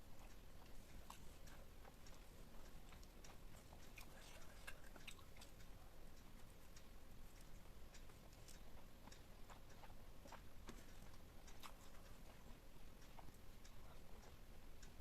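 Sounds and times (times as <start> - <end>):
chewing food with mouth clicks: 0.0 - 15.0.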